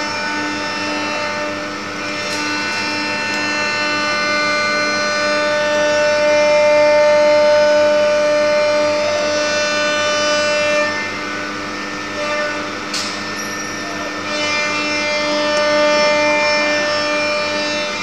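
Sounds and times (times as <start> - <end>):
wood router motors whining: 0.0 - 18.0.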